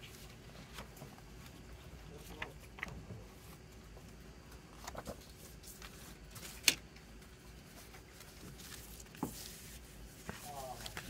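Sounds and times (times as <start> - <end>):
paper handling noise: 0.0 - 11.0.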